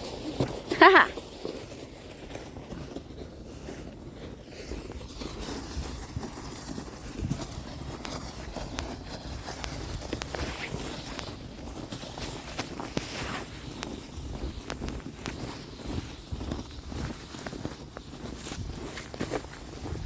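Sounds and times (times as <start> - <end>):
footsteps crunching in snow: 0.0 - 20.0.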